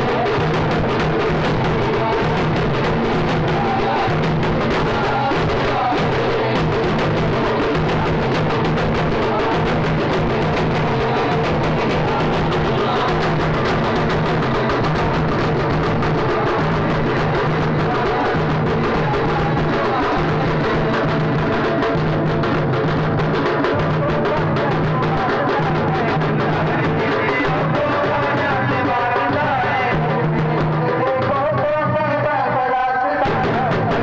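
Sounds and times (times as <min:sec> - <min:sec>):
drums beaten fast: 0:00.0 - 0:34.0.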